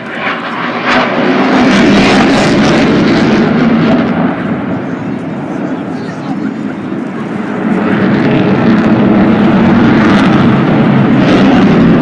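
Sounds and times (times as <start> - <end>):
low-flying aircraft engine: 0.0 - 12.0.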